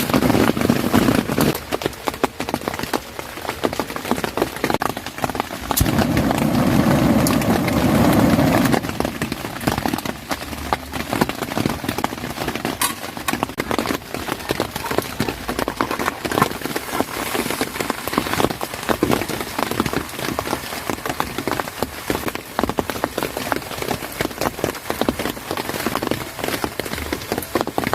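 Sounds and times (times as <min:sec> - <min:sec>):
dense rush of noise: 0:00.0 - 0:27.9
raindrops ticking on a surface: 0:00.0 - 0:27.9.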